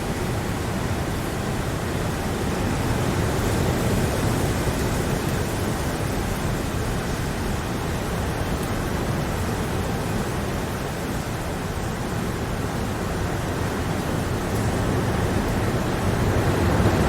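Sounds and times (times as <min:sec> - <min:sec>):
steady rain hiss: 0:00.0 - 0:17.0.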